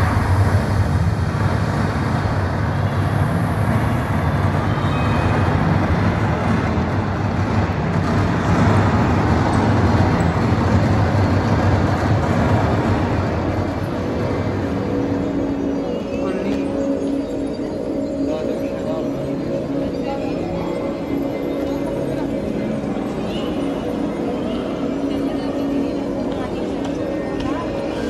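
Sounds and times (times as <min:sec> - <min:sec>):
faint voices of visitors: 0:00.0 - 0:28.0
low rumbling hall ambience: 0:00.0 - 0:28.0.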